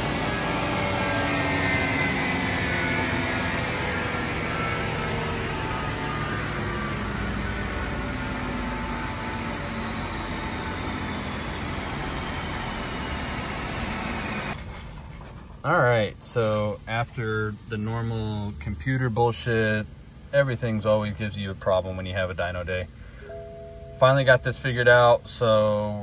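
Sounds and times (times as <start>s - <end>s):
dyno roller whine spinning down: 0.0s - 26.0s.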